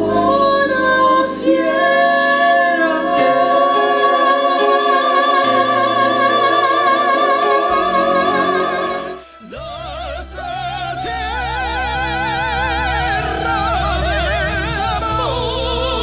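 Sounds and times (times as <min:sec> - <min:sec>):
operatic duet singing: 0:00.0 - 0:16.0
backing accompaniment: 0:01.6 - 0:16.0.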